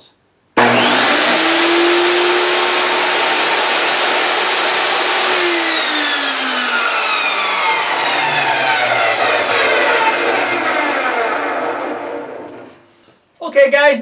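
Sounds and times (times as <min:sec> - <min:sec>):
table saw motor whining: 0:00.6 - 0:12.8.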